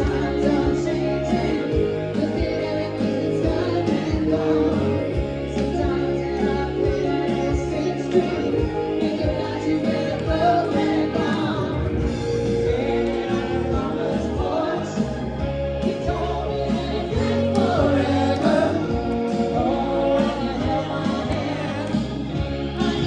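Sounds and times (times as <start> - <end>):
drums: 0.0 - 23.0
electric bass: 0.0 - 23.0
person singing: 0.0 - 23.0.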